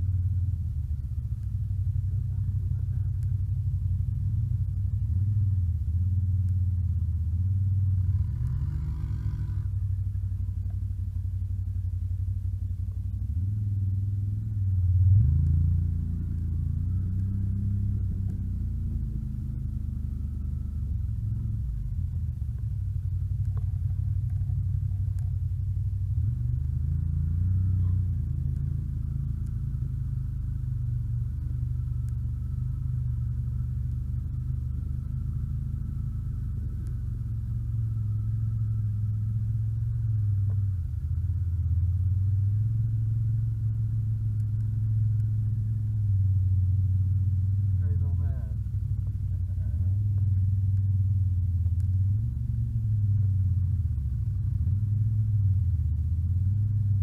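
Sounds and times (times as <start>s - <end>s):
atv engine revving: 4.1s - 10.8s, 13.2s - 57.0s.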